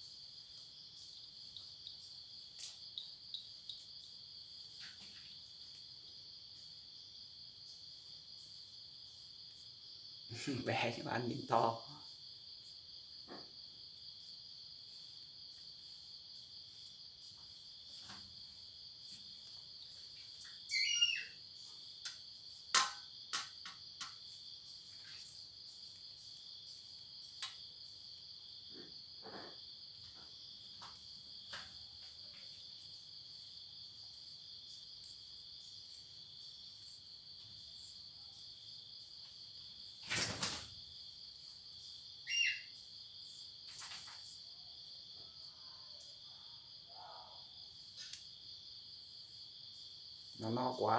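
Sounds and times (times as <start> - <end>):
night insects chirring: 0.0 - 50.9.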